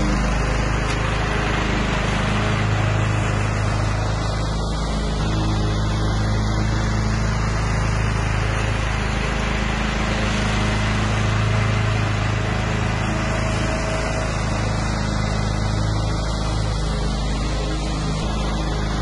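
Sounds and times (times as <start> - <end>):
lawn tractor mowing: 0.0 - 19.0.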